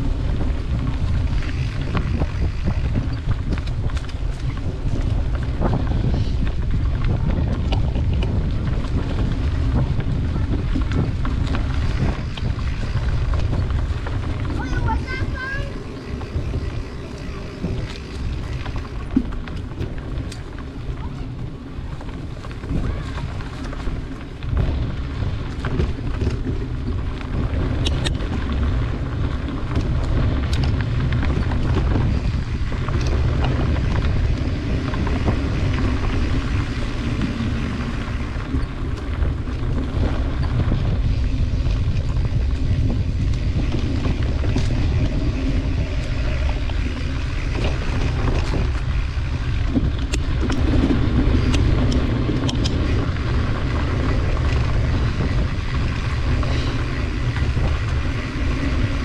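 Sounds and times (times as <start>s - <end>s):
bike clicks and rattles: 0.0s - 59.0s
bike tyres rumbling on dirt: 0.0s - 59.0s
wind rumble on microphone: 0.0s - 59.0s.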